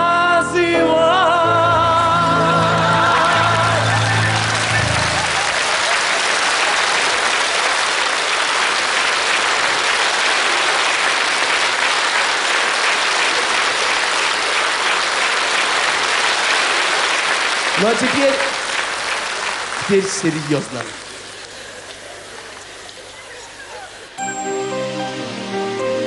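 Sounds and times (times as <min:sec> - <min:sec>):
audience applauding: 0:02.7 - 0:25.2.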